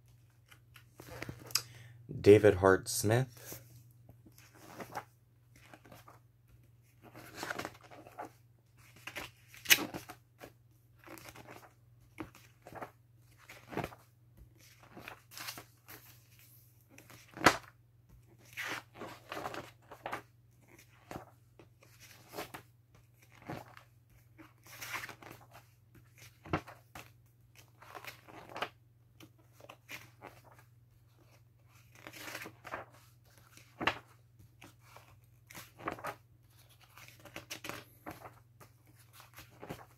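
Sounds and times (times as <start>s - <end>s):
pages rustling: 0.1s - 1.5s, 3.4s - 39.9s.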